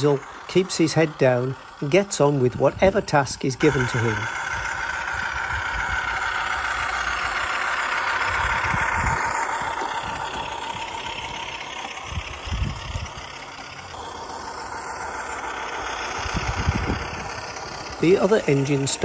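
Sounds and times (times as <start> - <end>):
light rattle: 0.0 - 19.0
model train mechanical whine: 0.0 - 19.0.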